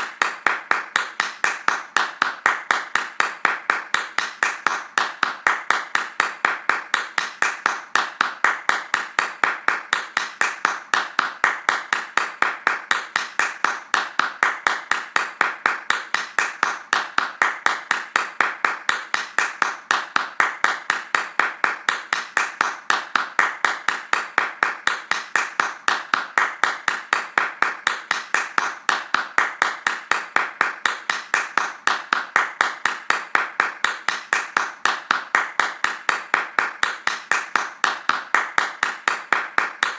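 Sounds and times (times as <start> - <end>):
hands clapping fast: 0.0 - 39.9.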